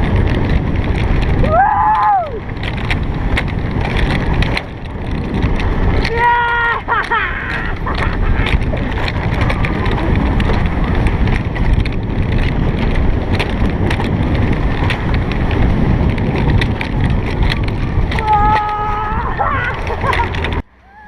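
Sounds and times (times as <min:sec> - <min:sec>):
coaster wheels rumbling on rails: 0:00.0 - 0:21.0
wind rushing on microphone: 0:00.0 - 0:21.0.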